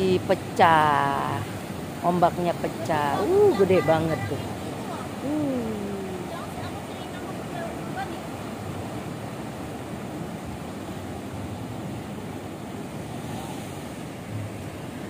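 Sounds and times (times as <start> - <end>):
waves breaking on rocks: 0.0 - 14.9.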